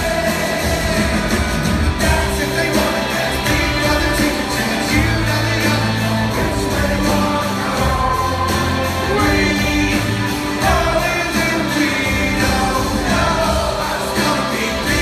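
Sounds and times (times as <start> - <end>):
lead singer: 0.0 - 15.0
live rock band: 0.0 - 15.0.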